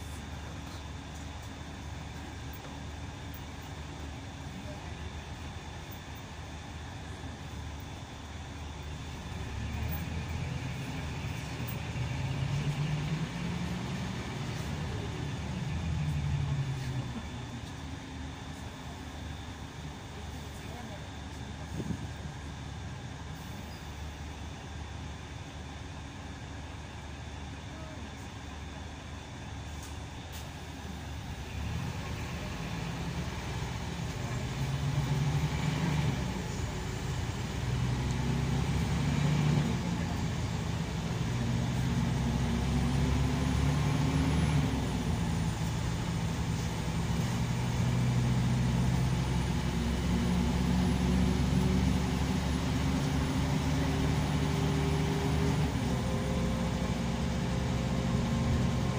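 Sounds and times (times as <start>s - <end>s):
diesel engine low drone: 0.0s - 58.9s
road noise: 0.0s - 58.9s.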